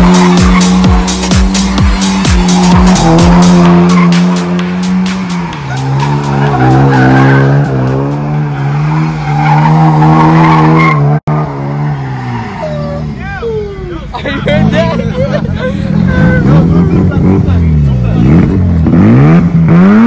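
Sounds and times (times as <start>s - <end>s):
car engine at high revs: 0.0s - 13.2s, 14.2s - 20.0s
tyres skidding on pavement: 0.0s - 18.9s.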